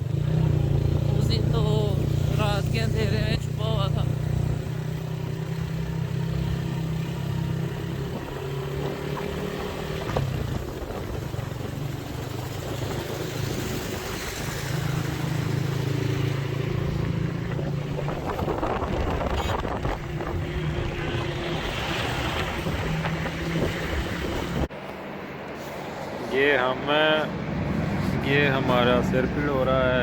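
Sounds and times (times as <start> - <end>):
motorcycle engine cruising: 0.0 - 25.0, 27.0 - 30.0.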